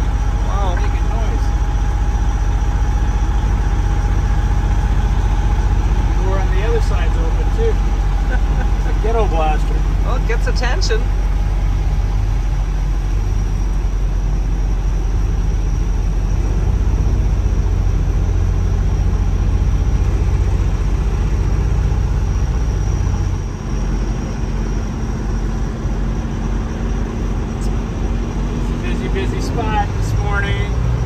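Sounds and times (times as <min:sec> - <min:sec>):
diesel truck engine drone: 0:00.0 - 0:31.0
low hum: 0:00.0 - 0:31.0.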